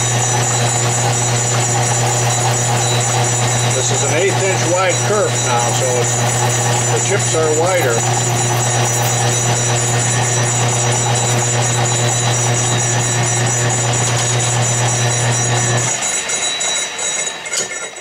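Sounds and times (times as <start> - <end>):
lathe motor hum: 0.0 - 18.0
lathe winding down: 0.0 - 18.0
parting tool cutting steel: 0.0 - 18.0.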